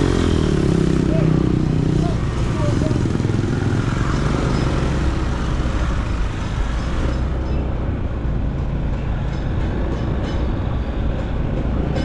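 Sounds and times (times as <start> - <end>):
motorcycle engine rumble: 0.0 - 12.0
road noise: 0.0 - 12.0.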